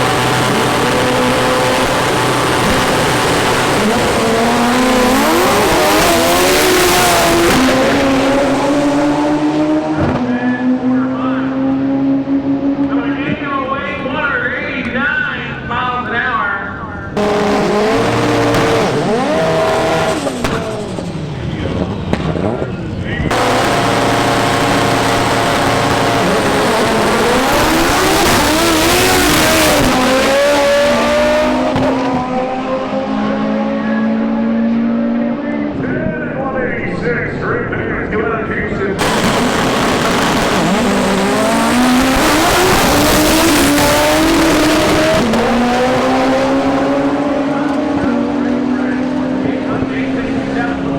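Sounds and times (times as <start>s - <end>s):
race car engine revving through gears: 0.0s - 13.5s, 17.1s - 36.4s, 38.9s - 50.9s.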